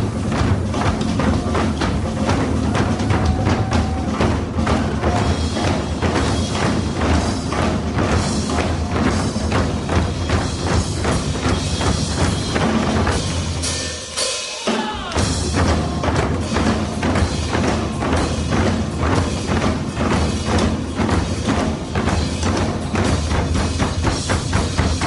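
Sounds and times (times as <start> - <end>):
rapid drum strikes: 0.0 - 25.0.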